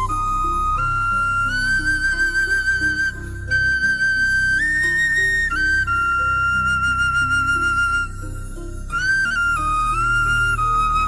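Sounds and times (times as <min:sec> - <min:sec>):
flute ringtone music: 0:00.0 - 0:11.0.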